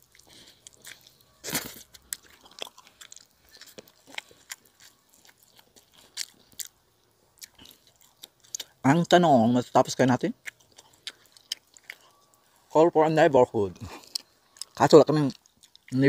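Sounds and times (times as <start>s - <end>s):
chewing with wet smacks: 0.0s - 16.0s.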